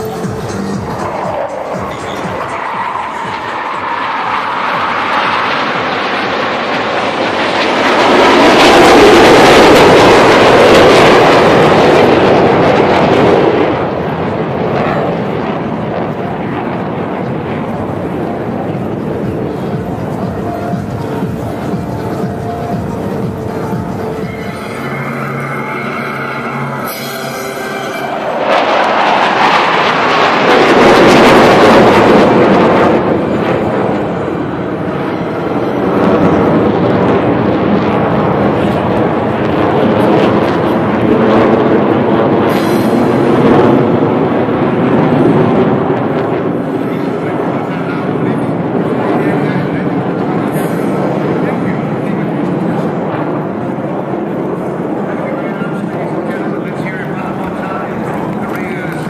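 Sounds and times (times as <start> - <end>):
jets flying past: 0.0 - 59.0.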